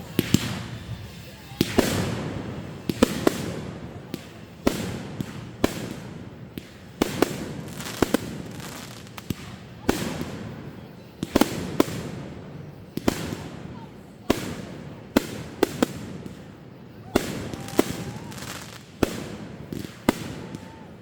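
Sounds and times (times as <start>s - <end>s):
fireworks bangs with echo: 0.0s - 21.0s.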